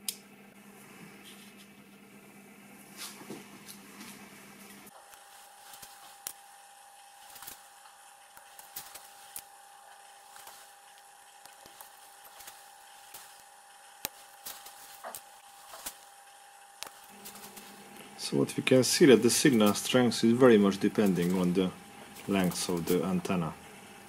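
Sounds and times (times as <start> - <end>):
faint high whine: 3.1 - 24.0.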